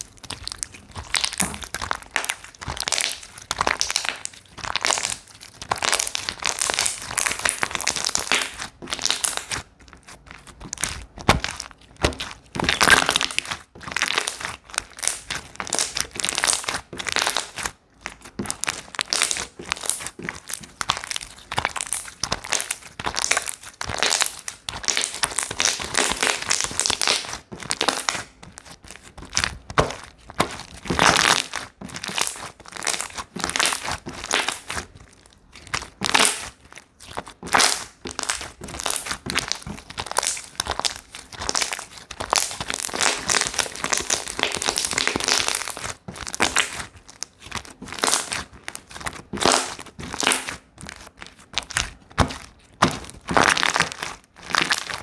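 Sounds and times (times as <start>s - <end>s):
slime squeezed and crackling: 0.0s - 55.0s.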